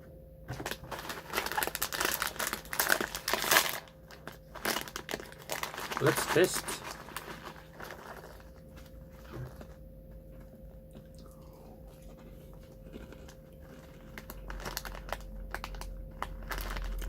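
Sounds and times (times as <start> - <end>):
crunchy snack chewing: 0.8 - 9.8, 10.4 - 17.0.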